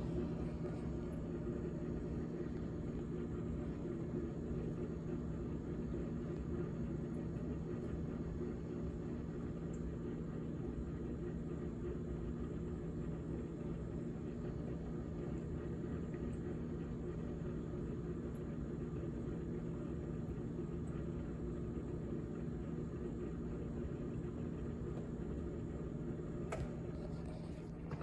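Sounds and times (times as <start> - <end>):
refrigerator humming: 0.0 - 28.0.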